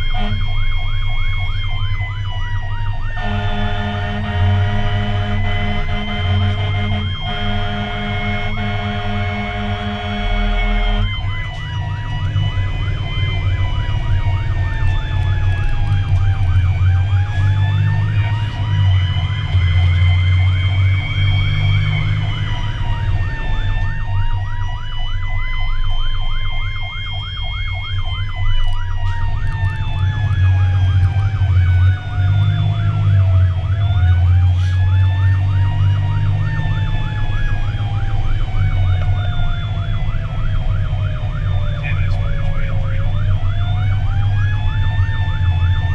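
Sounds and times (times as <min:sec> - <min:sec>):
engine and road rumble: 0:00.0 - 0:45.9
fast warbling siren tone: 0:00.0 - 0:45.9
siren wailing: 0:00.0 - 0:45.9.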